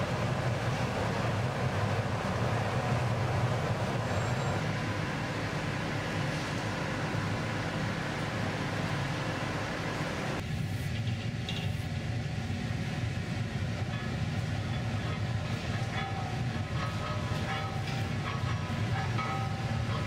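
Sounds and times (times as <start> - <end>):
gas furnace roaring: 0.0 - 20.0
higher furnace hiss: 0.0 - 20.0.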